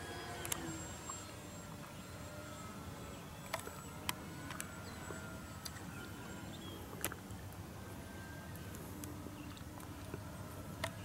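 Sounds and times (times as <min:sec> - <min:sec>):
distant model plane motor whine: 0:00.0 - 0:11.0.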